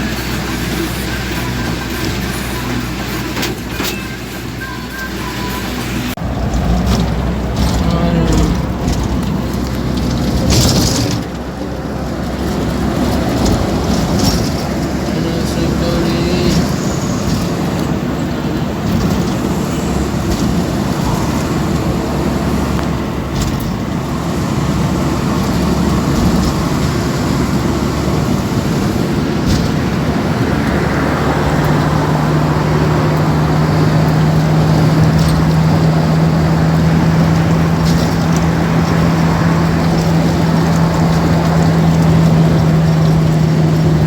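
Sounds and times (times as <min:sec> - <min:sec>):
low engine hum: 0:00.0 - 0:44.0
road vehicle rumble: 0:00.0 - 0:44.0.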